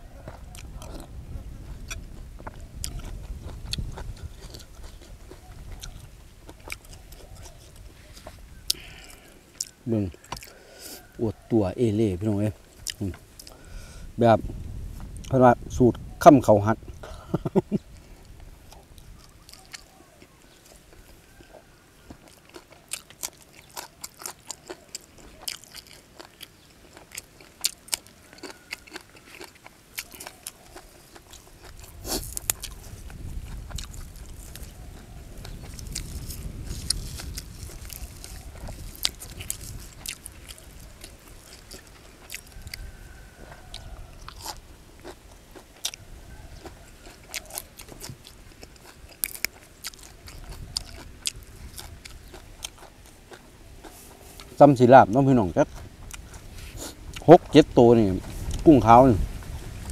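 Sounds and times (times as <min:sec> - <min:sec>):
man chewing crunchy food: 0:00.0 - 0:14.1, 0:16.8 - 0:59.9.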